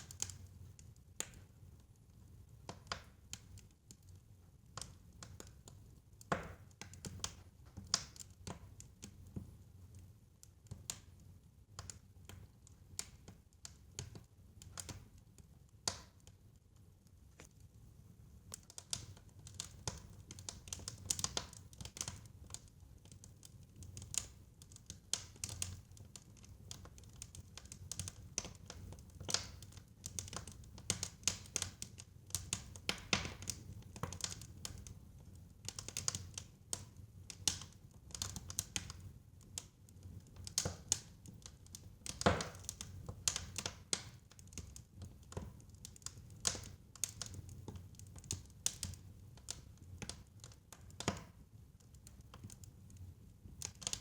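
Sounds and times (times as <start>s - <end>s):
wood fire pops and snaps: 0.0s - 1.5s, 2.6s - 16.4s, 18.5s - 54.0s.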